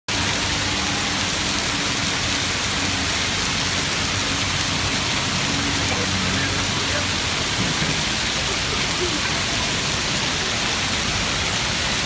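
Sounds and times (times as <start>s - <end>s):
hail and rain on paving: 0.1s - 12.0s.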